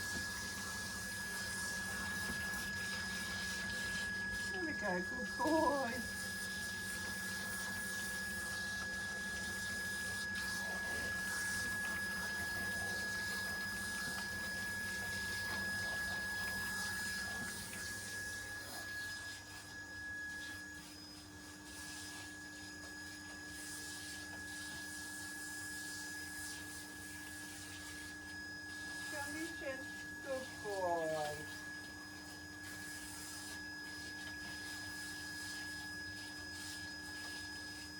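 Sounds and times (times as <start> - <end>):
high-pitched machine whine: 0.0 - 37.9.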